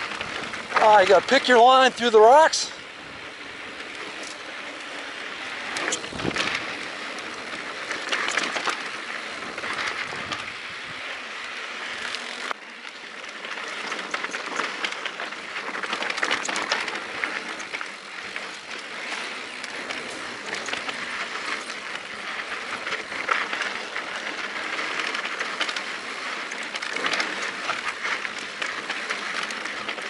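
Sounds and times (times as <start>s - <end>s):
stones clicking and bike rattling: 0.0s - 30.0s
tyres crunching on gravel: 0.0s - 30.0s.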